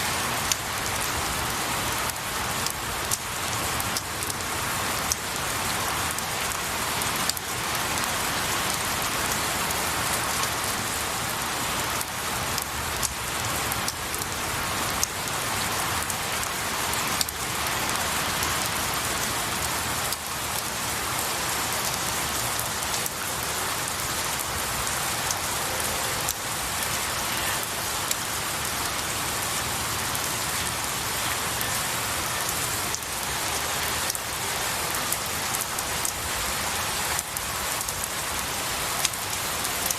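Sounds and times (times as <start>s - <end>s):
rain falling on pine branches: 0.0s - 39.9s.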